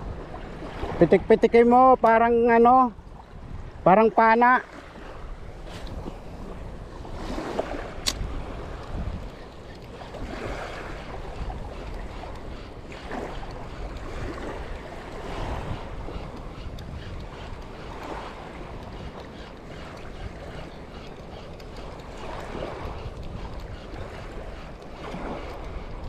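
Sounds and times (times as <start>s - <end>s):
small waves washing on sand: 0.0s - 26.0s
wind on microphone: 0.0s - 26.0s.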